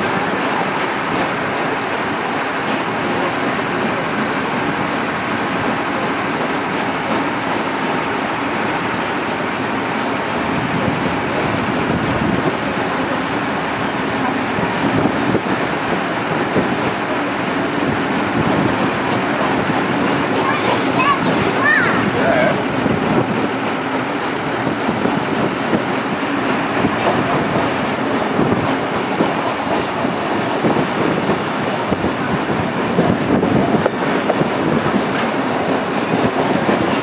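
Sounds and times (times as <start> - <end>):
steam train rushing noise: 0.0 - 37.0.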